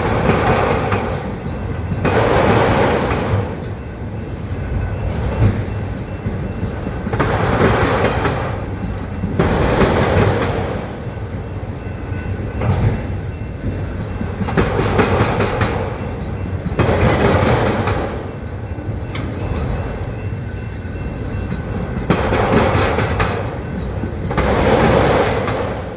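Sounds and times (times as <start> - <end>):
train wheels clattering over rails: 0.0 - 25.9.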